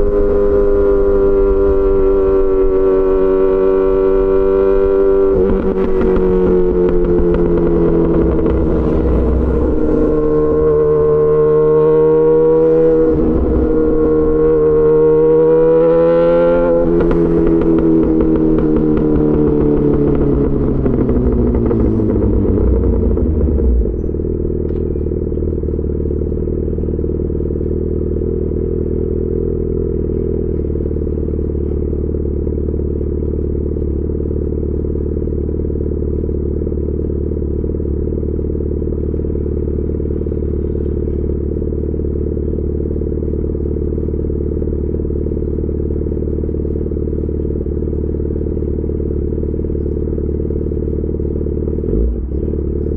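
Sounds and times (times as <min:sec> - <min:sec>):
motorcycle engine idling: 0:05.3 - 0:52.9.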